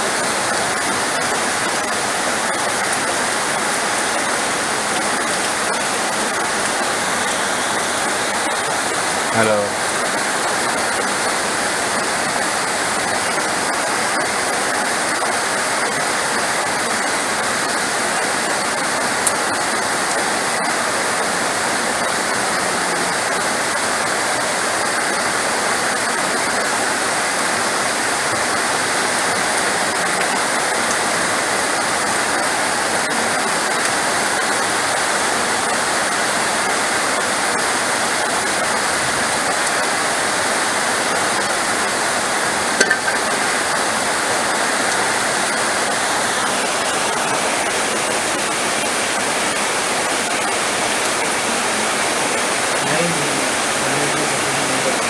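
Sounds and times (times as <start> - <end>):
heavy rain hiss: 0.0 - 55.0.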